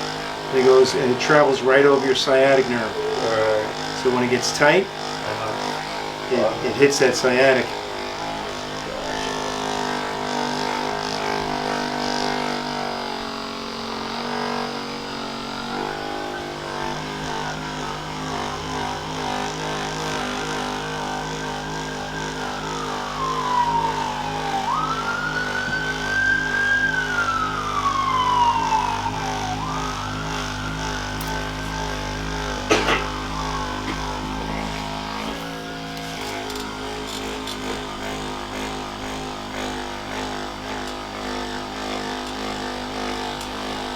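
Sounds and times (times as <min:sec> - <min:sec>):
electric massager motor whine: 0:00.0 - 0:43.9.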